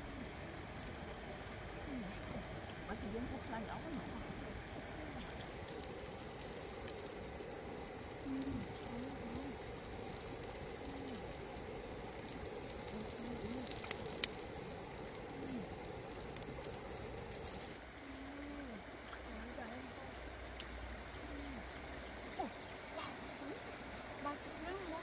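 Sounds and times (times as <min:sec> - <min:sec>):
fat sizzling in fire: 0:00.0 - 0:25.0
fire popping: 0:00.0 - 0:25.0.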